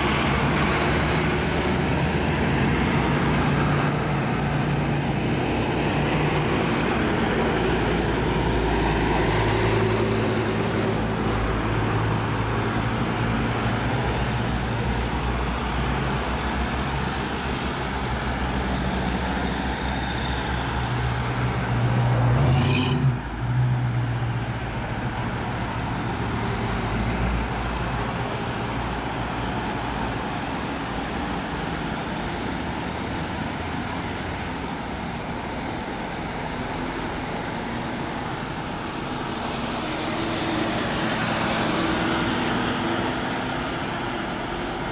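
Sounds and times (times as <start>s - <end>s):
diesel engines running: 0.0s - 44.9s
tyres on road: 0.0s - 44.9s.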